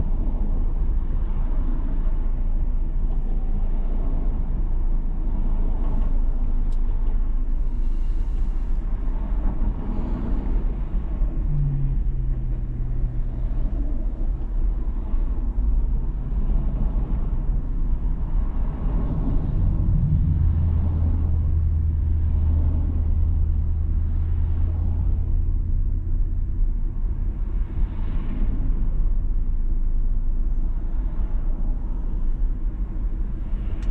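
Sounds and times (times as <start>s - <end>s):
car engine and road rumble: 0.0s - 33.9s
low drone: 0.0s - 33.9s.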